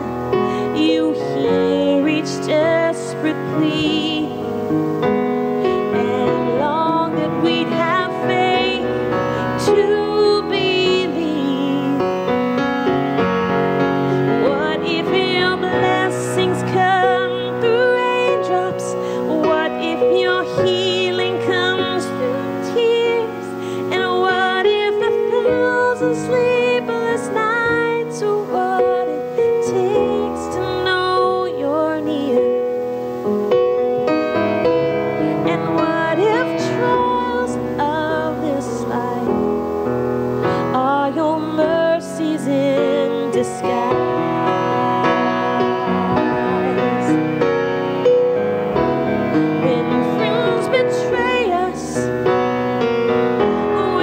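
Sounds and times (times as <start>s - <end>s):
grand piano accompaniment: 0.0s - 54.0s
woman singing a ballad: 0.0s - 54.0s.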